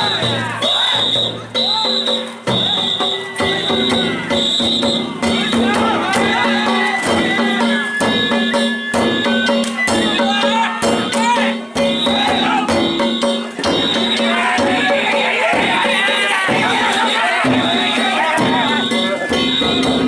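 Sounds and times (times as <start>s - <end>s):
taiko drum beating: 0.0s - 20.0s
small gongs beating: 1.4s - 20.0s.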